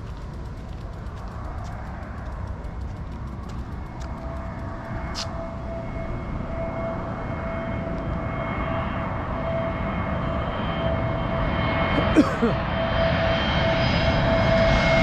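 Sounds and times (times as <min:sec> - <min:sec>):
jet airliner engines: 0:00.0 - 0:12.0, 0:12.6 - 0:15.0.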